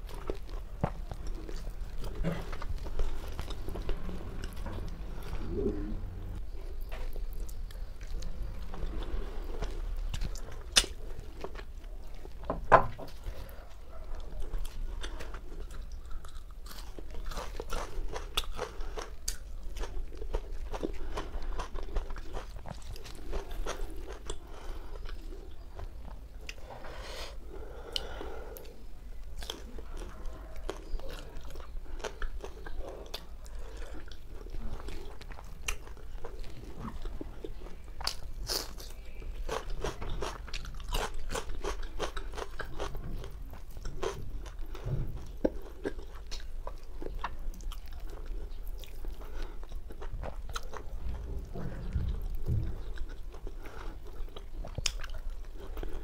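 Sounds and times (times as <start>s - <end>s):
wet crunching chewing: 0.0s - 26.7s, 27.9s - 56.0s.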